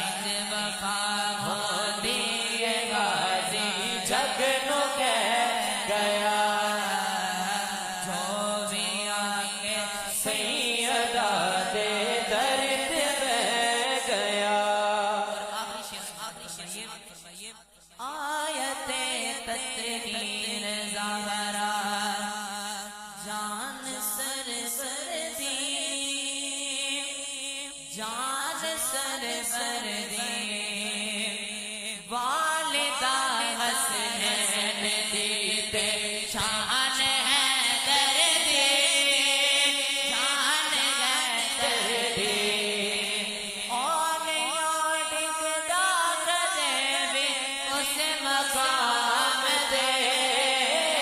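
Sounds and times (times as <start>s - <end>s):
man chanting: 0.0s - 51.0s.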